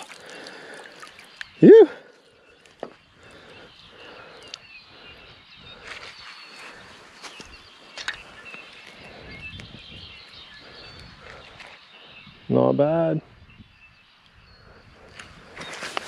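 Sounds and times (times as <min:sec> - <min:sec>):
faint bird chirps: 0:00.3 - 0:16.0.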